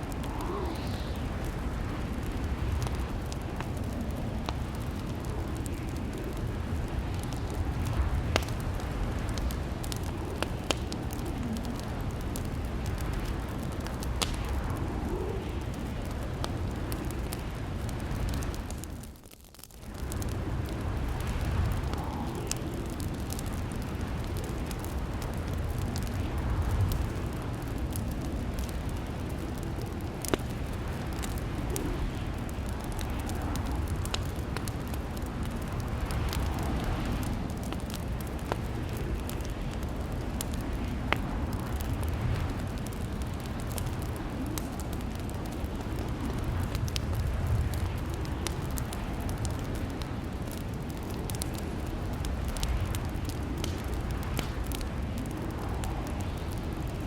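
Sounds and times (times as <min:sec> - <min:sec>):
steady low rumble: 0:00.0 - 0:57.0
wood fire crackling: 0:00.0 - 0:57.0.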